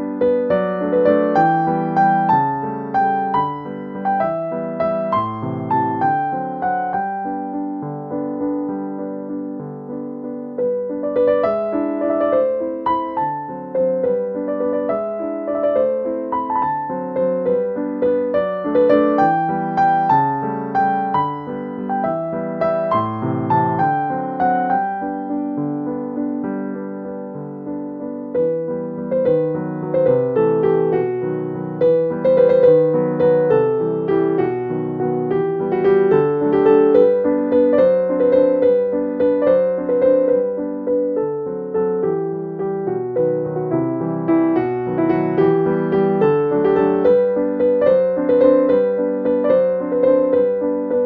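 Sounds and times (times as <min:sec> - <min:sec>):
gentle piano music: 0:00.0 - 0:51.0.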